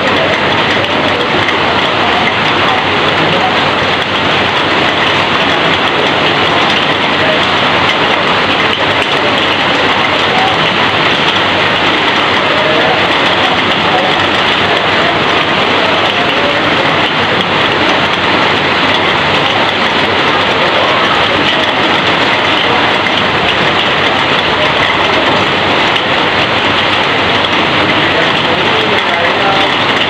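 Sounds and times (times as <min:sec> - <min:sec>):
heavy rain on a metal roof: 0:00.0 - 0:30.0
water running off roof: 0:00.0 - 0:30.0.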